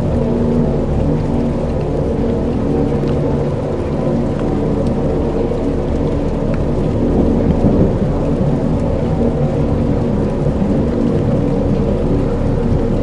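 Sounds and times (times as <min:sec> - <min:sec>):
deep rumbling drone: 0:00.0 - 0:13.0
rain-like hiss: 0:00.0 - 0:13.0.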